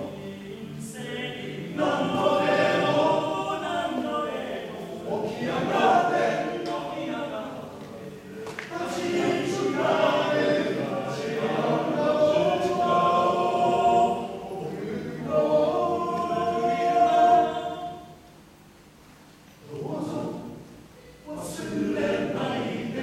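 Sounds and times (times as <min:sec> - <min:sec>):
men's choir singing: 0:00.0 - 0:18.3, 0:19.6 - 0:23.0.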